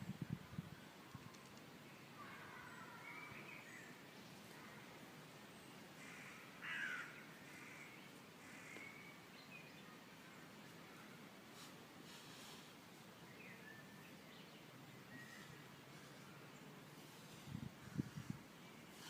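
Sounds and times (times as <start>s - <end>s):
woodland birdsong: 0.0s - 19.0s.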